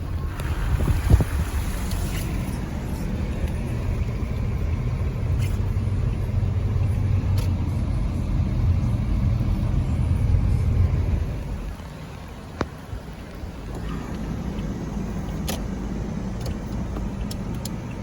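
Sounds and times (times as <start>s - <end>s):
car rumbling on the move: 0.0s - 18.0s.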